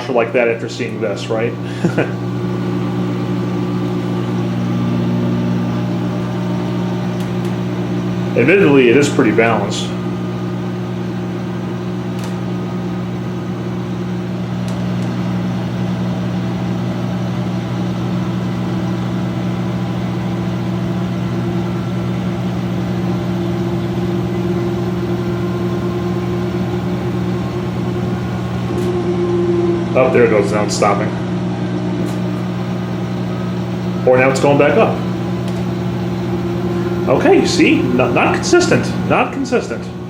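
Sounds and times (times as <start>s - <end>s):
washing machine spinning: 0.0s - 40.0s.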